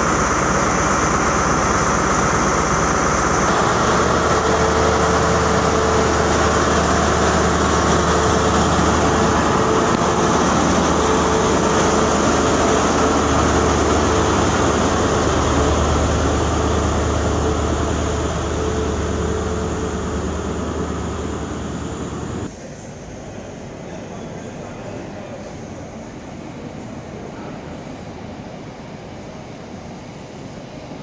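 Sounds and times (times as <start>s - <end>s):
diesel train engine passing: 0.0s - 31.0s
steady engine whine: 0.0s - 31.0s.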